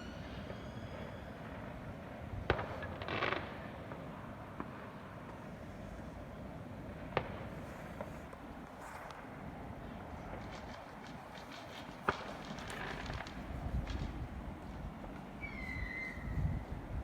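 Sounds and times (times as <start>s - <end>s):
fireworks banging: 0.0s - 5.5s, 6.8s - 16.1s
fireworks crackle: 0.0s - 16.7s.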